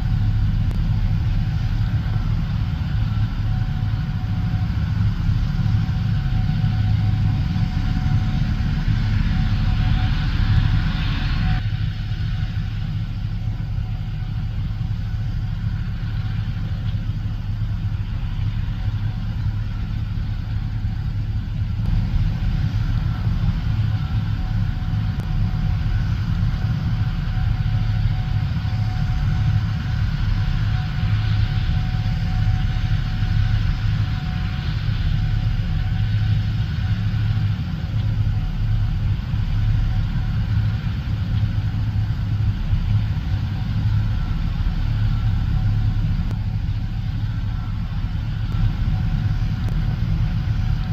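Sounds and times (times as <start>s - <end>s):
combine harvester droning: 0.0s - 50.9s
faint steady whine: 0.0s - 50.9s.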